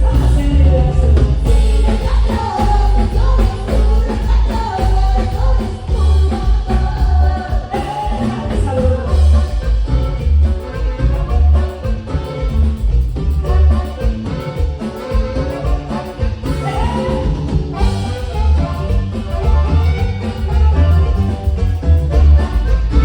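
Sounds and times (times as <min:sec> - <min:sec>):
person singing: 0:00.0 - 0:12.4, 0:15.4 - 0:23.0
heavy loud bass: 0:00.0 - 0:23.0
live latin band music: 0:00.0 - 0:23.0.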